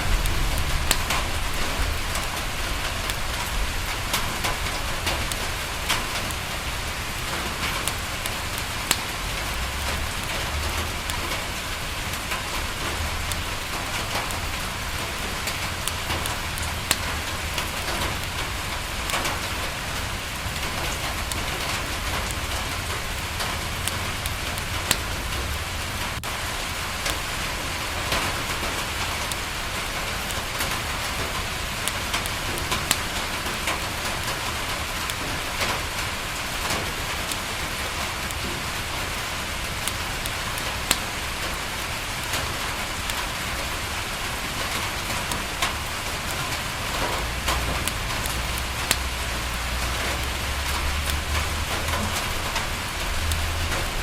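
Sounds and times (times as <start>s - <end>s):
rain on a window: 0.0s - 54.0s
wood fire crackling: 0.0s - 54.0s.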